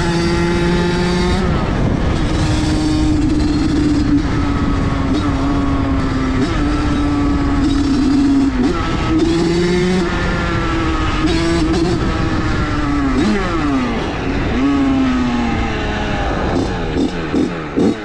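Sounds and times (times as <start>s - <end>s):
small motorbike engine revving: 0.0s - 18.0s.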